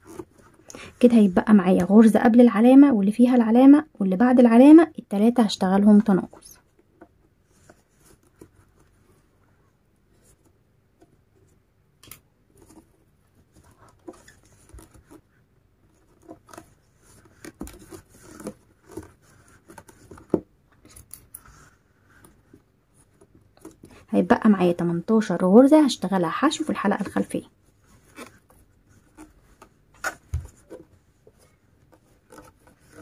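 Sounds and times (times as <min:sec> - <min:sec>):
cord rustling and scraping: 0:00.0 - 0:02.2, 0:05.8 - 0:25.1, 0:25.8 - 0:33.0.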